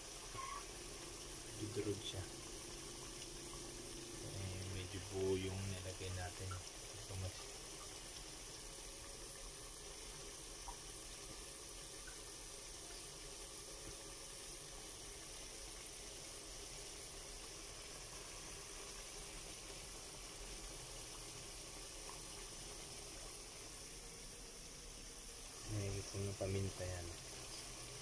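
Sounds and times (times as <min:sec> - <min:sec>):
pork simmering with bubbling hiss: 0:00.0 - 0:28.0.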